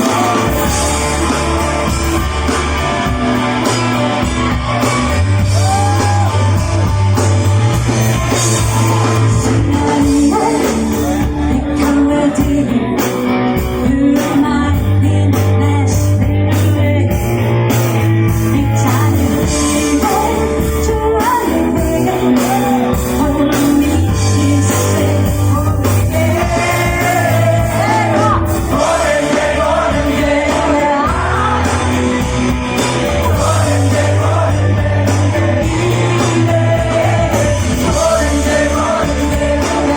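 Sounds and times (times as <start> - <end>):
bass line held notes: 0.0 - 39.9
live rock band playing: 0.0 - 39.9.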